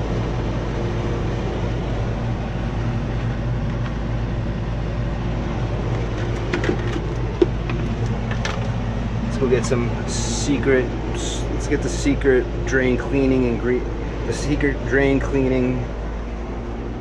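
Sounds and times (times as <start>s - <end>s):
air conditioner running: 0.0s - 17.0s.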